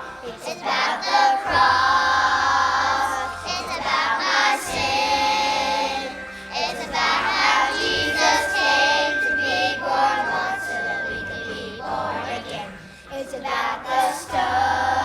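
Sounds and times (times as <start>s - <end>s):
children's choir singing: 0.0s - 15.0s
instrumental accompaniment: 0.0s - 15.0s.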